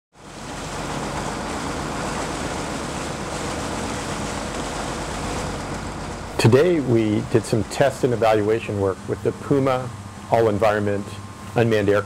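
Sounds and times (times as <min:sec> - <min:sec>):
boat engine running: 0:00.2 - 0:12.0
water noise: 0:00.2 - 0:12.0
wind: 0:00.2 - 0:12.0.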